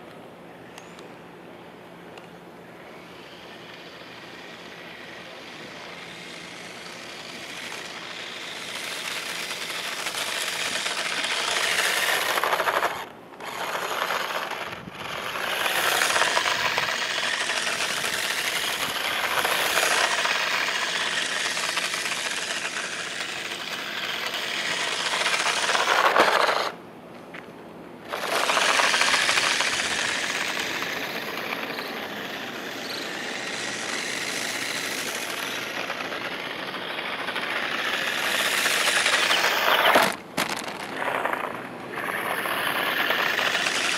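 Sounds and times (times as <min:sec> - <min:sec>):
toy car electric motor: 0:03.0 - 0:26.8, 0:28.0 - 0:43.9.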